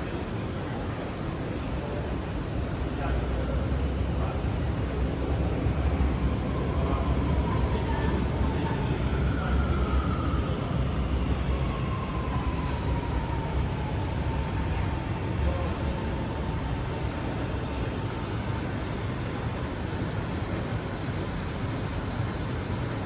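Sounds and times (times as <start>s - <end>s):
faint train whine: 0.0s - 23.0s.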